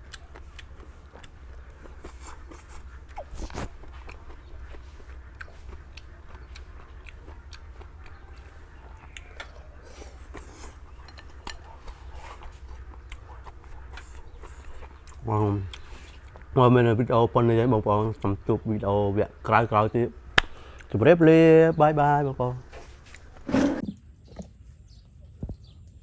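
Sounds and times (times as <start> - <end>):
chewing and crunching food: 0.0 - 21.0, 22.6 - 26.0
steady low hum: 0.0 - 26.0.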